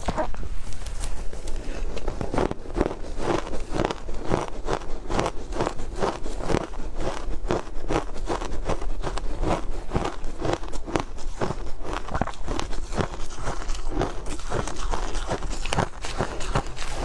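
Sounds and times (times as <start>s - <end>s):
chewing crunchy ice: 1.5s - 17.0s.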